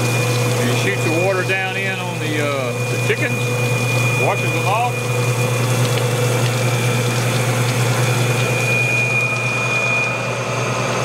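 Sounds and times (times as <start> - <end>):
water spraying and splashing: 0.0 - 9.7
water pouring out: 0.0 - 9.8
motor humming with whine: 0.0 - 11.0.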